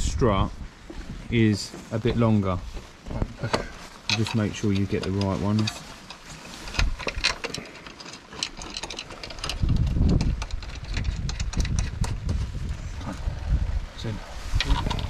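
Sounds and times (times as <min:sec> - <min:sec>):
wind buffeting microphone: 0:00.0 - 0:07.7, 0:08.6 - 0:15.0.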